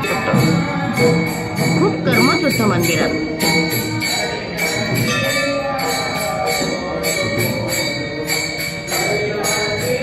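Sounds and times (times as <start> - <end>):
jingling bells: 0.0 - 10.0.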